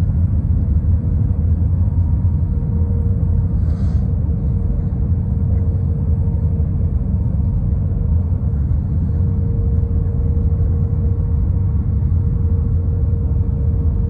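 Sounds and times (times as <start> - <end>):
airliner cabin engine rumble: 0.0 - 14.0
faint mid-pitched hum: 0.0 - 14.0.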